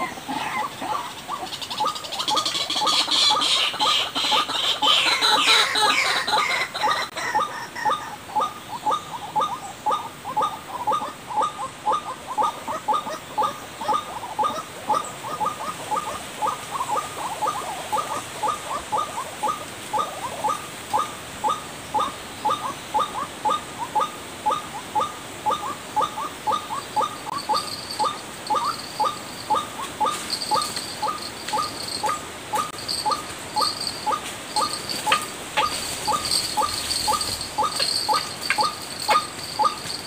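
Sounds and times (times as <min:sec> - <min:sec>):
bird calls repeated rapidly: 0:00.0 - 0:40.0
faint high chirping: 0:05.8 - 0:40.0.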